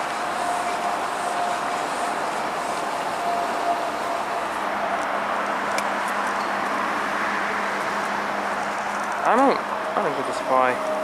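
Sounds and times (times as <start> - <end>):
electric train rumbling on tracks: 0.0 - 11.0.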